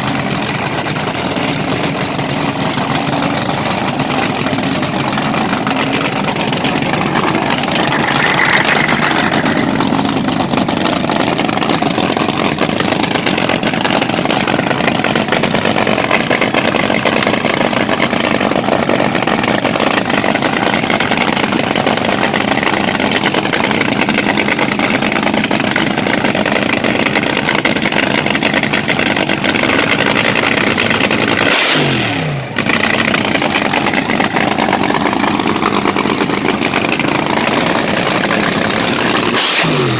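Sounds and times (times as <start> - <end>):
hot rod engines revving: 0.0 - 39.9.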